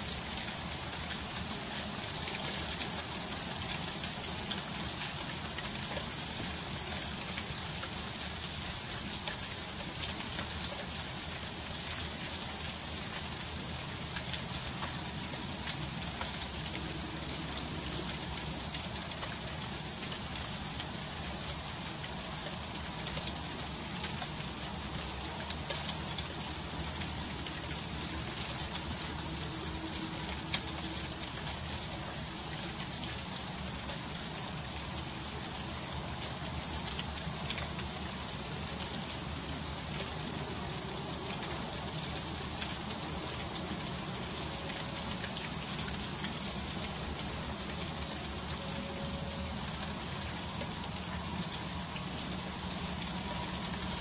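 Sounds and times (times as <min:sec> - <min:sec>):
freezing rain ticking: 0:00.0 - 0:54.0.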